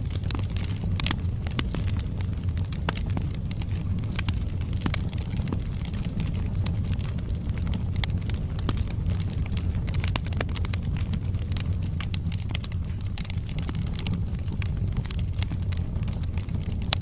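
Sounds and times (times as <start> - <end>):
fire flames rumbling: 0.0 - 17.0
logs crackling and popping: 0.0 - 17.0.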